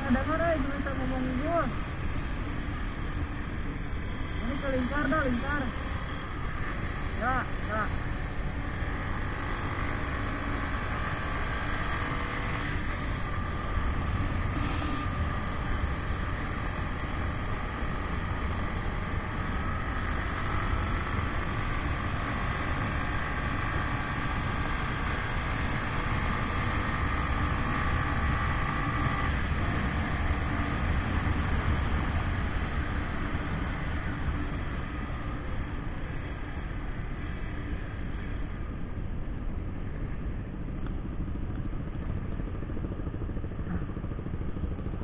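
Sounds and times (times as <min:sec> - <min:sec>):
motorcycle engine: 0:00.0 - 0:45.0
wind and road noise: 0:00.0 - 0:45.0.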